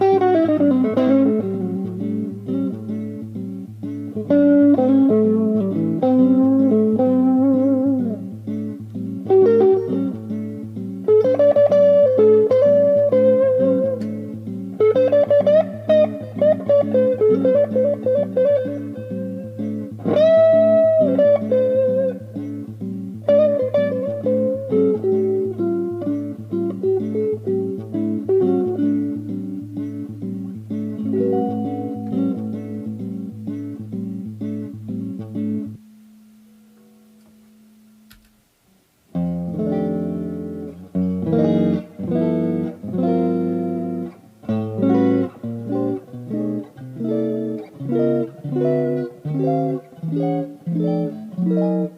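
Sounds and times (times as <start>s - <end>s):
electric guitar picking notes: 0.0s - 38.3s, 39.0s - 51.9s
guitar chords strummed: 0.0s - 51.9s.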